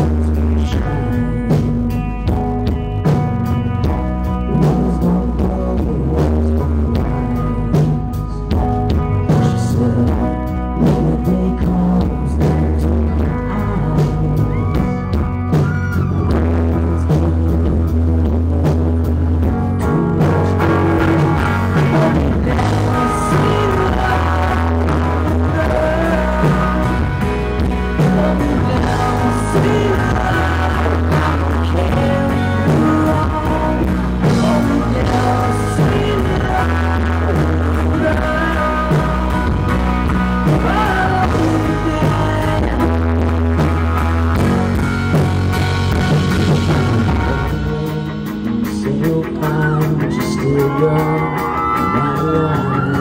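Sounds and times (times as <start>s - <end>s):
bass guitar: 0.0s - 53.0s
drum kit: 0.0s - 53.0s
electric guitar: 0.0s - 53.0s
man singing: 0.0s - 53.0s.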